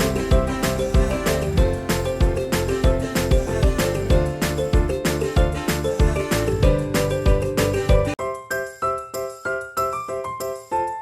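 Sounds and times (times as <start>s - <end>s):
upbeat music with tinkly melody: 0.0s - 11.0s.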